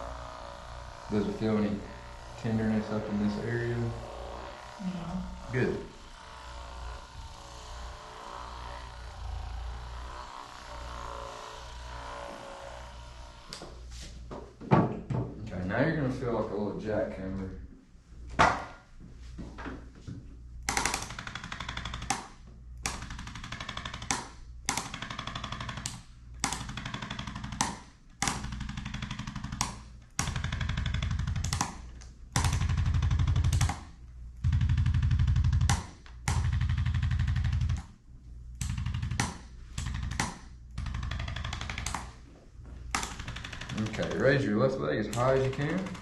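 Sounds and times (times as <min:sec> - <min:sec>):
electric percussion tool hammering: 0:00.0 - 0:13.9, 0:20.6 - 0:38.0, 0:38.6 - 0:42.2, 0:42.9 - 0:46.0.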